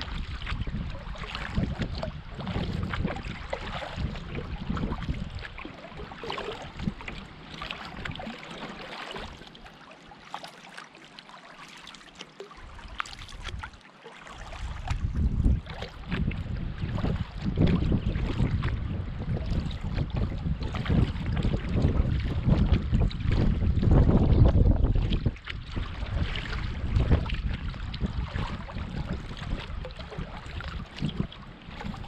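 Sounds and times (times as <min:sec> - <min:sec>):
wind buffeting microphone: 0:00.0 - 0:08.4, 0:12.6 - 0:13.7, 0:14.4 - 0:32.0
water splashing against canoe: 0:00.0 - 0:32.0.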